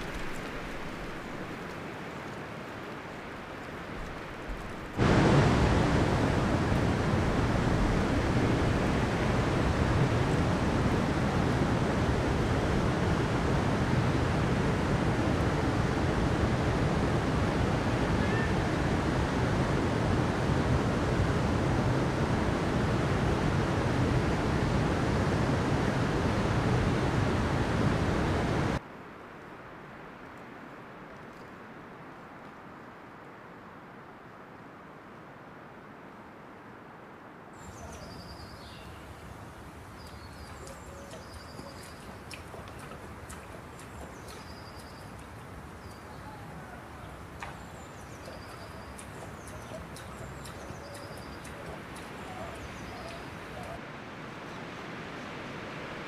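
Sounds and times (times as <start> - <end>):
stream rushing over rocks: 0.0 - 28.8, 37.6 - 56.0.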